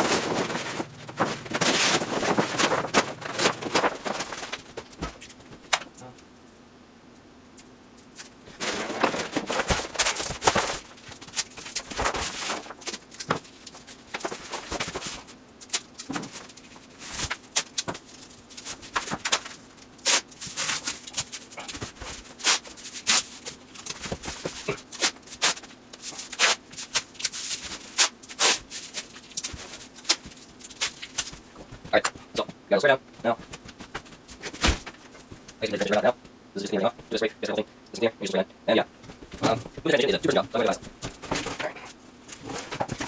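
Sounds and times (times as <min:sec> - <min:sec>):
paper rustling and crinkling: 0:00.0 - 0:05.9, 0:08.1 - 0:32.5, 0:33.2 - 0:36.2, 0:39.0 - 0:43.0
faint steady hum: 0:00.0 - 0:43.0.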